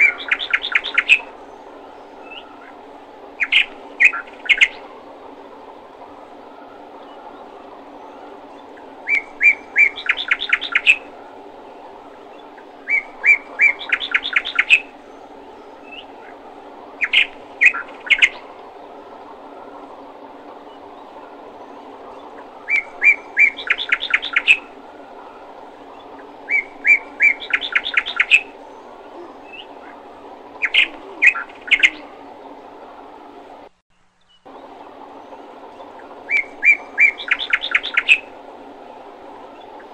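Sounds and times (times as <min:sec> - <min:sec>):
low hum: 0:00.0 - 0:39.9
songbird singing: 0:00.0 - 0:39.9.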